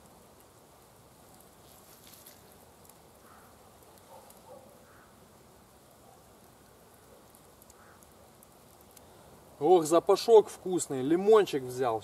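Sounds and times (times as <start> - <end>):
faint campfire crackling: 0.0 - 12.0
quiet hiss: 0.0 - 12.0.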